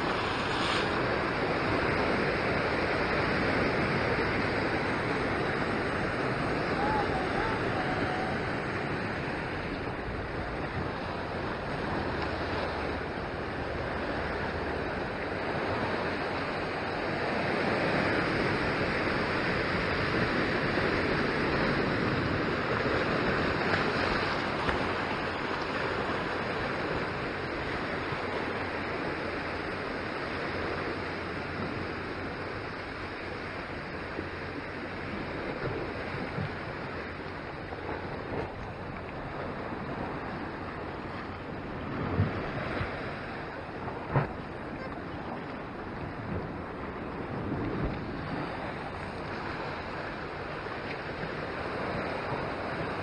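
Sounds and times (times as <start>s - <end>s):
sea waves washing over rocks: 0.0s - 53.0s.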